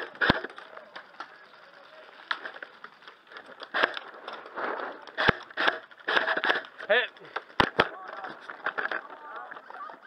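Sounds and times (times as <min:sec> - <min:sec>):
sharp cracks: 0:00.0 - 0:09.7.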